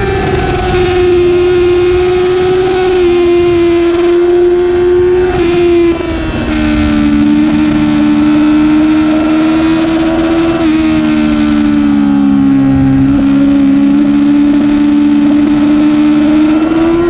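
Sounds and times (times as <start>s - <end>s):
motorcycle engine at high revs: 0.0s - 17.0s
wind noise: 0.0s - 17.0s.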